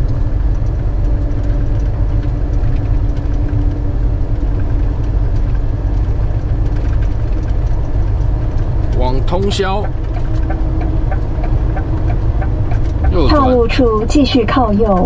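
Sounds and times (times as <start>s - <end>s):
constant low hum: 0.0s - 15.0s
engine drone: 0.0s - 15.0s
road rumble: 0.0s - 15.0s.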